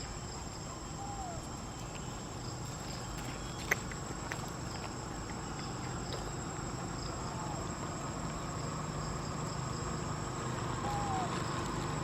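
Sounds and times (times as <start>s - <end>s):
insects trilling: 0.0s - 12.0s
pulsing insect trill: 0.0s - 12.0s.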